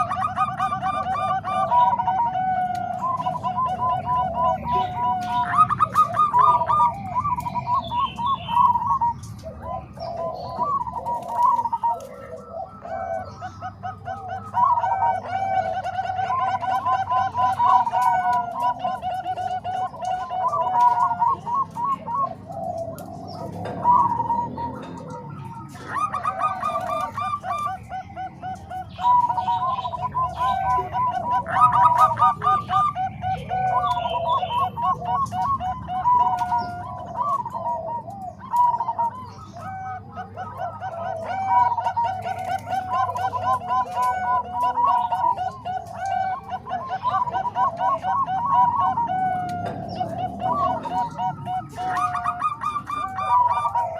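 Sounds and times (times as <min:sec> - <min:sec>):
doves trilling and cooing: 0:00.0 - 0:53.9.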